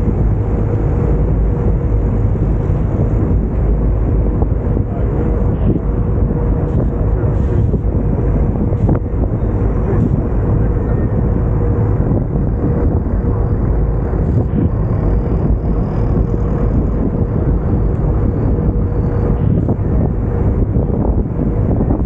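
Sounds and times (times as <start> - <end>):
boat engine running: 0.0 - 22.0
rush of wind and water: 0.0 - 22.0.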